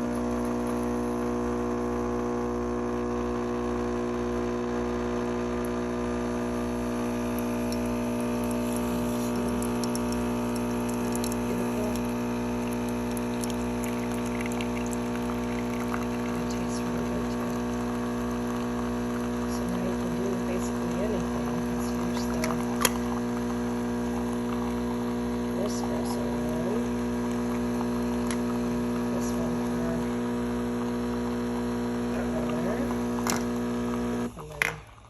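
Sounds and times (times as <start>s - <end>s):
coffee maker pump humming: 0.0s - 35.0s.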